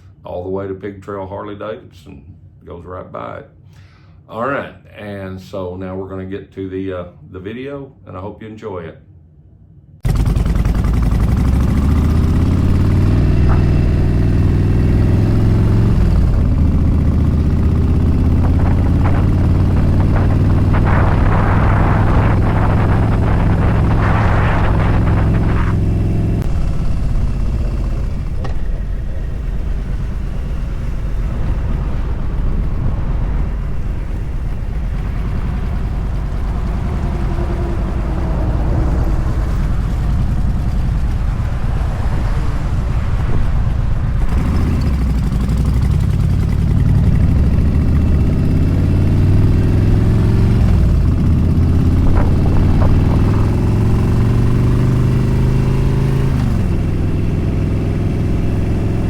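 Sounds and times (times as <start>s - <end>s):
motorcycle engine running: 10.0s - 59.0s
wind noise on microphone: 11.2s - 59.0s.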